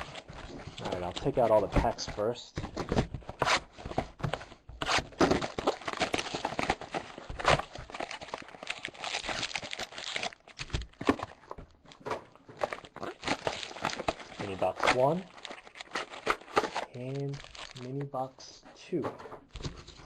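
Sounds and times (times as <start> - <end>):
wrappers crinkling and rustling: 0.0 - 3.8, 4.9 - 18.4.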